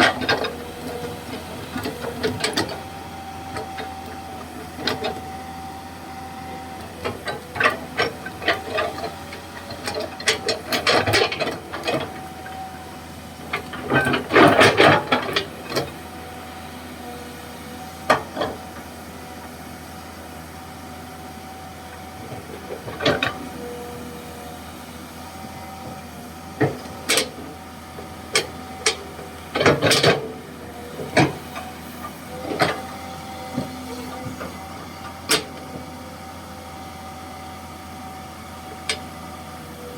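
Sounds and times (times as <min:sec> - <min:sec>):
excavator engine hum: 0:00.0 - 0:39.9.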